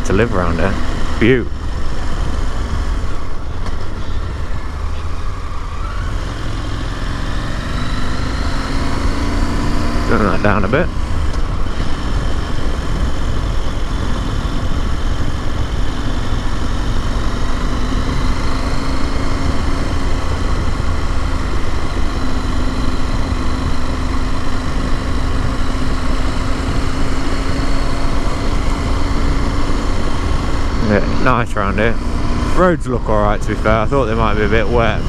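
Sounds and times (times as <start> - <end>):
motorcycle engine cruising: 0.0 - 35.0
road rumble: 0.0 - 35.0.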